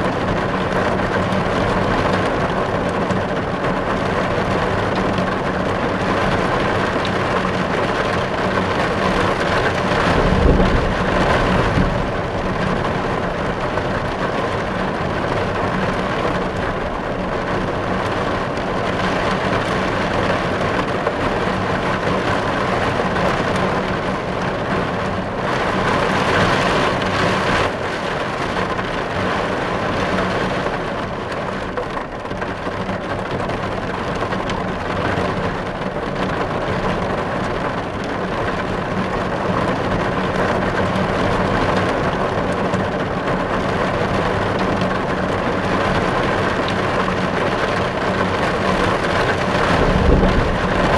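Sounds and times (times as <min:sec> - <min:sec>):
heavy rain on car roof: 0:00.0 - 0:50.9.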